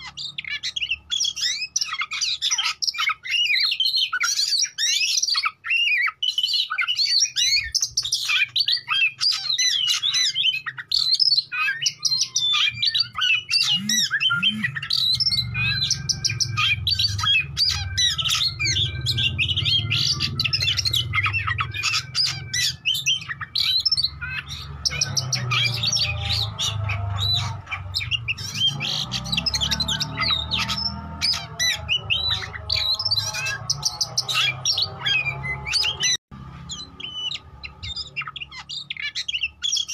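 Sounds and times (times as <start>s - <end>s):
songbird whistles and trills: 0.0s - 39.9s.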